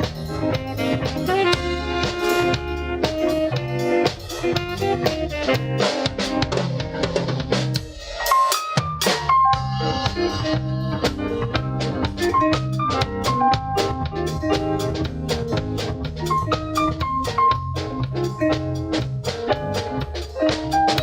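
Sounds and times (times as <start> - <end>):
held stepping melody: 0.0 - 7.7, 9.3 - 21.0
bass line: 0.0 - 7.9, 8.8 - 21.0
drum kit beat: 0.0 - 21.0.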